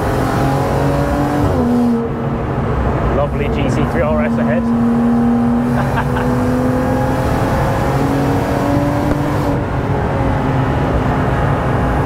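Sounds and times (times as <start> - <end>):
car engine at high revs: 0.0 - 12.0
tyre and road noise: 0.0 - 12.0.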